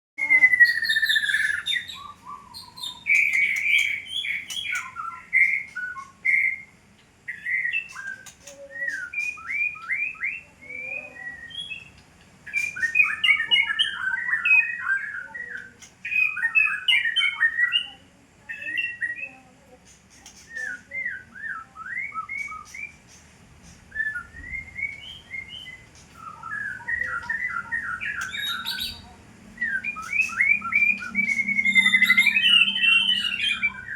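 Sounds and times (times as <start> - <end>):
bird singing whistled song: 0.2 - 19.4, 20.2 - 33.9.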